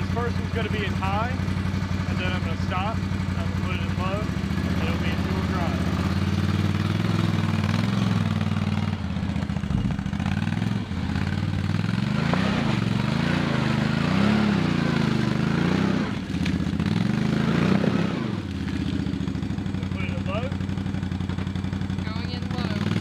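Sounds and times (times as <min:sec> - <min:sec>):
atv engine revving: 0:00.0 - 0:23.0
tyres churning through mud: 0:00.0 - 0:23.0.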